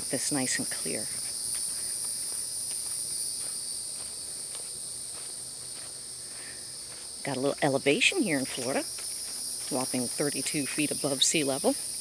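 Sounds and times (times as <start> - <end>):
faint footsteps on trail: 0.0 - 12.0
high-pitched insect chorus: 0.0 - 12.0.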